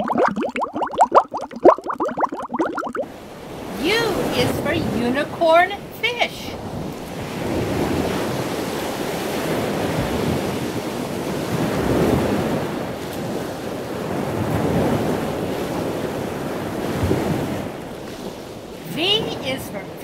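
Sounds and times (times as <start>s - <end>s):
ocean waves rushing: 0.0s - 20.0s.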